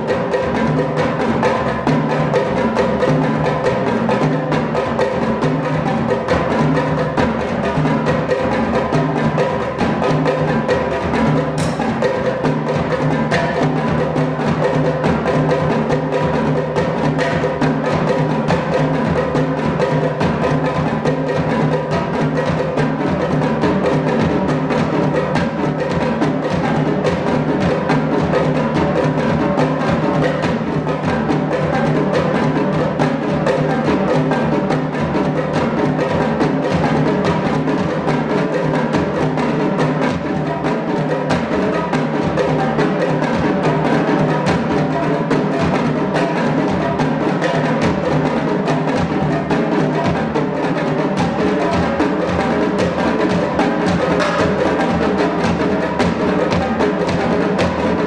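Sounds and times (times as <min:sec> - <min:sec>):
rapid drum strokes: 0:00.0 - 0:58.0.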